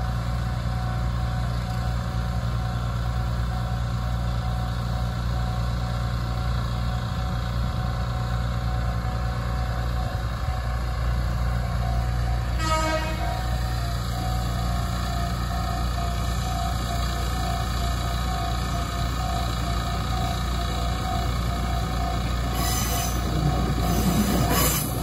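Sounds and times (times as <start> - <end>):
level-crossing warning bell: 0.0 - 25.0
low engine rumble: 0.0 - 25.0.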